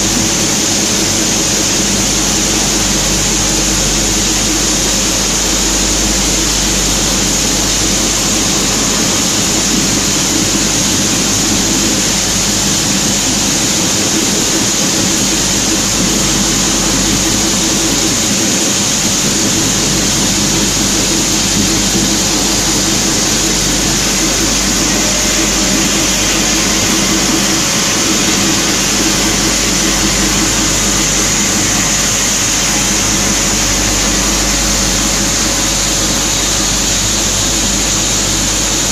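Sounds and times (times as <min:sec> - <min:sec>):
machinery drone with high hiss: 0:00.0 - 0:38.9.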